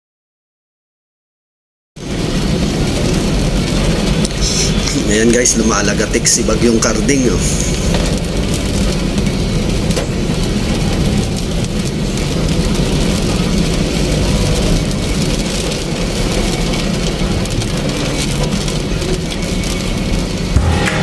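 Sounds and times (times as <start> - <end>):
car driving on a flooded road: 2.0 - 20.6
heavy rain on a car roof: 2.0 - 20.9.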